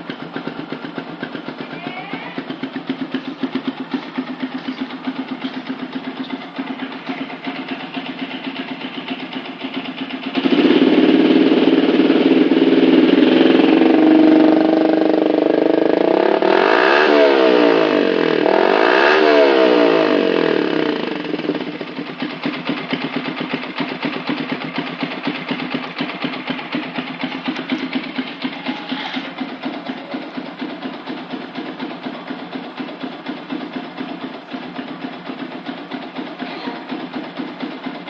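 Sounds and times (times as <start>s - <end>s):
motorcycle engine revving and idling: 0.0s - 38.0s.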